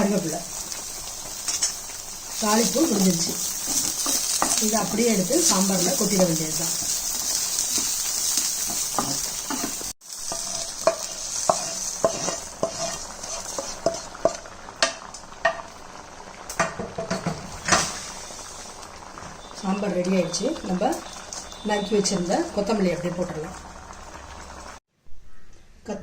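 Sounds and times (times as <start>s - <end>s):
spices sizzling in hot oil: 0.0s - 24.8s.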